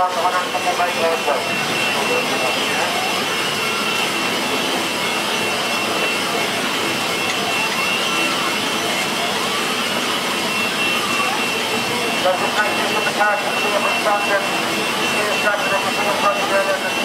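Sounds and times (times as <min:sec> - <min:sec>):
electric motors whining: 0:00.0 - 0:17.0
machine whir with high whine: 0:00.0 - 0:17.0.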